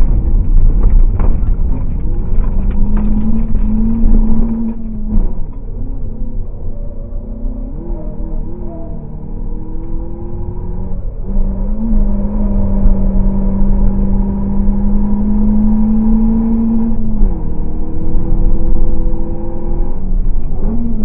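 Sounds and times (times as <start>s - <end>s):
car engine accelerating through gears: 0.0s - 21.0s.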